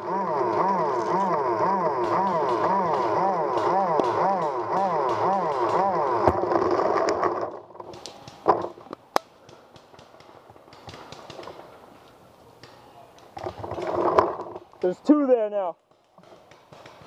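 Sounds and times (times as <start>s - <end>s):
paintball markers firing: 0.5s - 7.2s, 7.8s - 17.0s.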